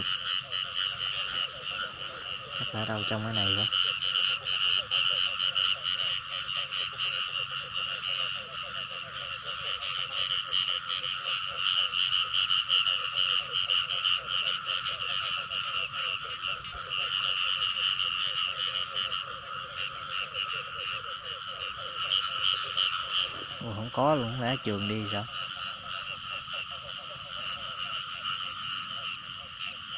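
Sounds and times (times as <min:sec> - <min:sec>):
chorus of frogs calling: 0:00.0 - 0:29.9.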